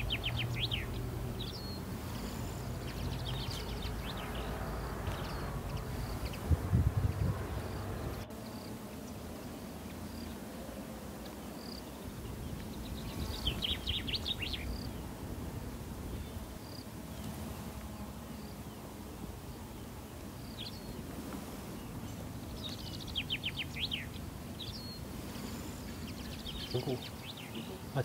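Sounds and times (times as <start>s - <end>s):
songbird chirping: 0.0s - 28.0s.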